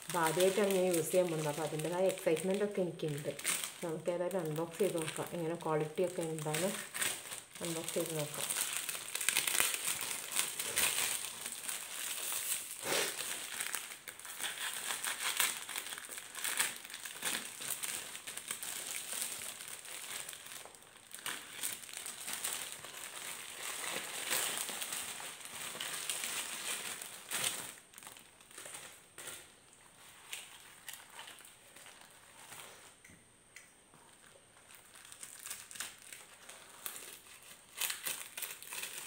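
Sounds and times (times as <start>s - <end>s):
plastic packaging crinkling: 0.0s - 33.0s, 34.0s - 39.0s.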